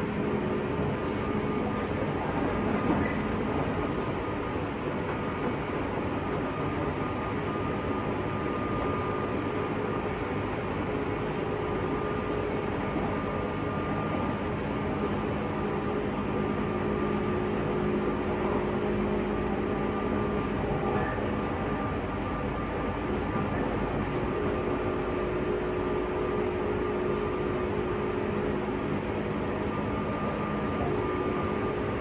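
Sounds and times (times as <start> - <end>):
multi-tone hum of running gear: 0.0 - 32.0
train wheels rumbling on rail: 0.0 - 32.0.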